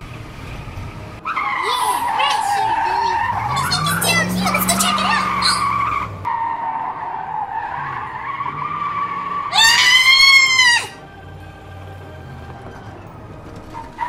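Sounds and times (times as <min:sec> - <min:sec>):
tire screech: 0:00.0 - 0:14.0.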